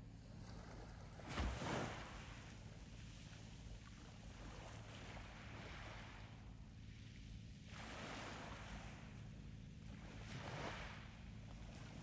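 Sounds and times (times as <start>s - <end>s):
steady low hum: 0.0s - 12.0s
small waves washing: 0.2s - 12.0s.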